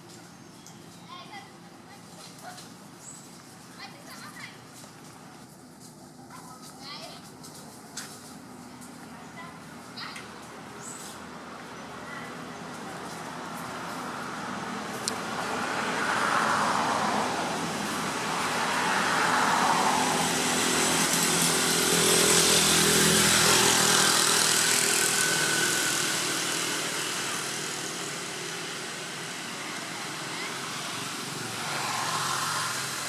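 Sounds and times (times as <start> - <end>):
motor vehicles driving past: 0.0 - 33.0.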